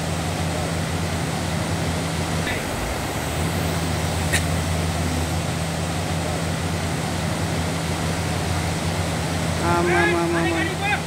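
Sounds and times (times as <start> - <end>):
truck engine droning: 0.0 - 11.0
river water rushing: 0.1 - 11.0.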